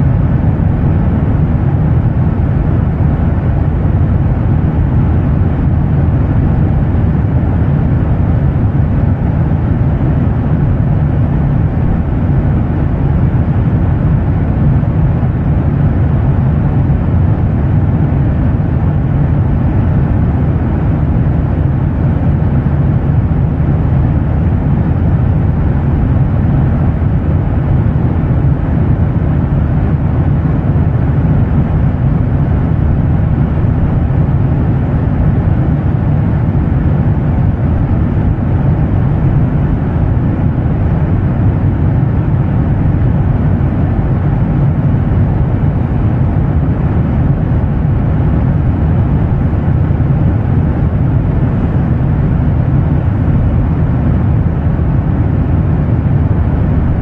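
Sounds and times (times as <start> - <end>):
jet engine drone: 0.0 - 57.0.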